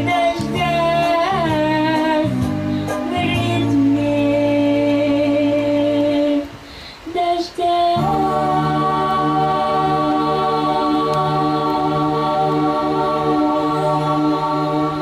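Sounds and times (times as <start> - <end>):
voices singing in harmony: 0.0 - 15.0.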